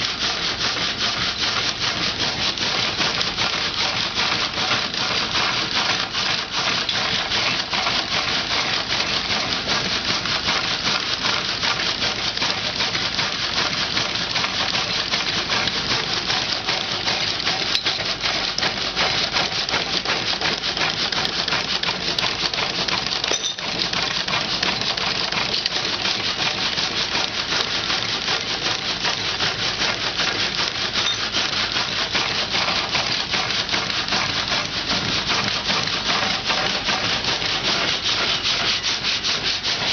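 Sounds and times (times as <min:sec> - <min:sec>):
sawmill saw rasping and clattering: 0:00.0 - 0:39.9.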